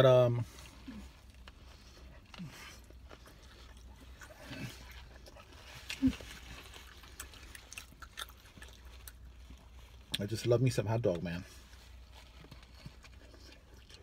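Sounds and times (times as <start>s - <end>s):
man chewing food: 0.4s - 10.2s, 11.5s - 14.0s.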